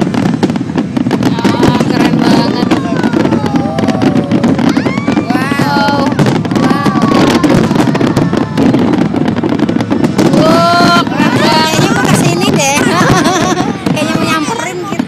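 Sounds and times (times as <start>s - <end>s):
fireworks bursting and crackling: 0.0s - 15.0s
pitched whistling fireworks: 0.0s - 15.0s.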